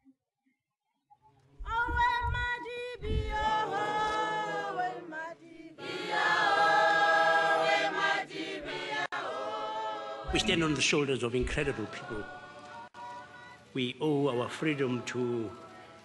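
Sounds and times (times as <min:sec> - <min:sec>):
choir singing: 0:03.0 - 0:16.0.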